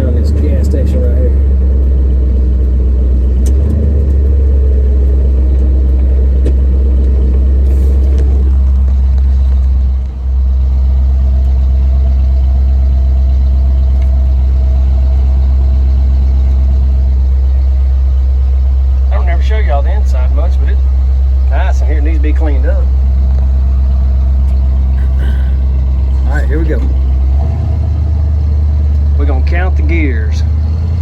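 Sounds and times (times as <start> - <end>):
road noise: 0.0 - 31.0
truck engine running: 0.0 - 31.0.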